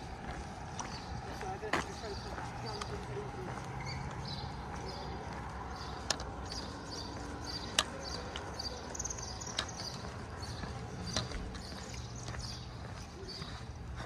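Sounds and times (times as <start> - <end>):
footsteps on pavement: 0.0 - 14.0.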